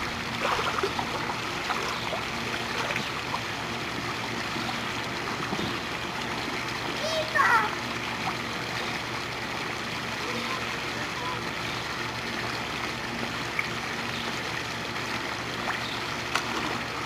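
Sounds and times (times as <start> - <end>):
pool water lapping and sloshing: 0.0 - 17.0.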